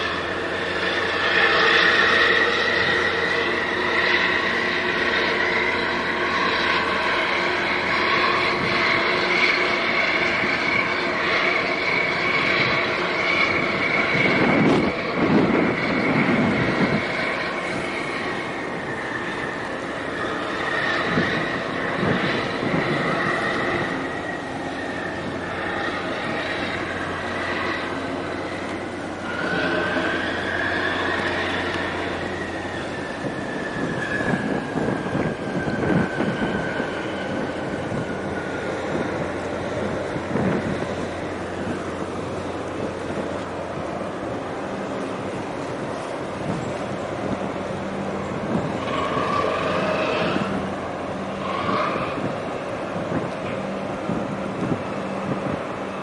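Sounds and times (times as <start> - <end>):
high whine: 0.0 - 56.0
ship engines droning: 0.0 - 56.0
wind buffeting microphone: 0.0 - 56.0.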